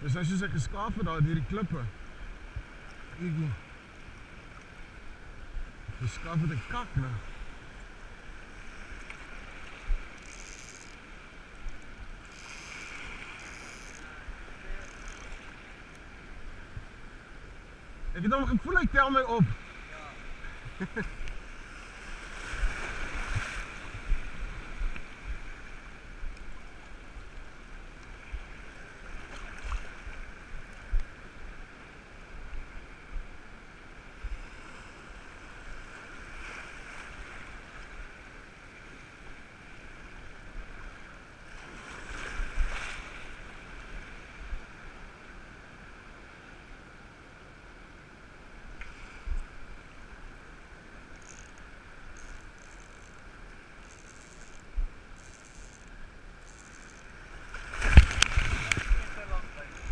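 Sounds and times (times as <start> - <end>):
sea surf washing and splashing: 0.0 - 27.3, 28.0 - 46.4, 54.7 - 59.9.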